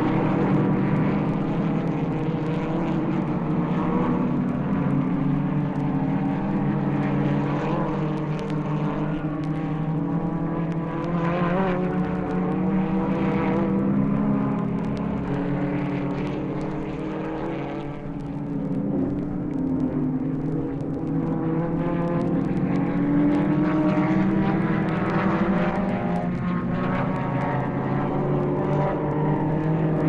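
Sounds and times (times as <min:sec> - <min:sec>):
racing car engines at high revs: 0:00.0 - 0:30.0
vinyl record crackle: 0:00.1 - 0:30.0.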